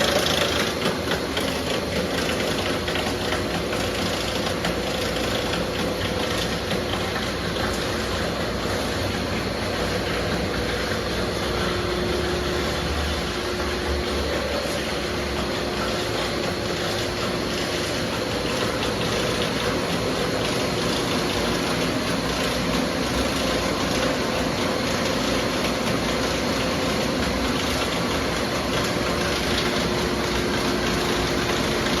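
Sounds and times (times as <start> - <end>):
factory machinery running: 0.0 - 32.0.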